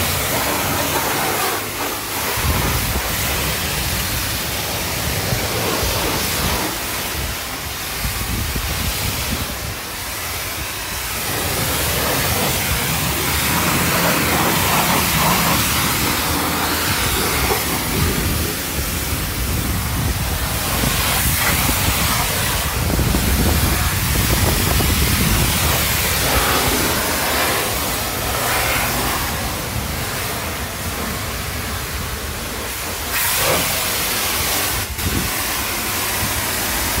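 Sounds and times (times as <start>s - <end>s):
foam brush spraying hiss: 0.0s - 37.0s.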